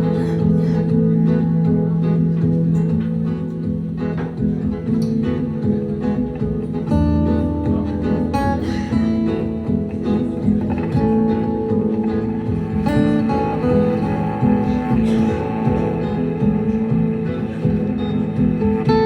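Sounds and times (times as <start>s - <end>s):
live band playing: 0.0s - 19.0s
low bass notes: 0.0s - 19.0s
strummed acoustic guitar: 0.0s - 19.0s.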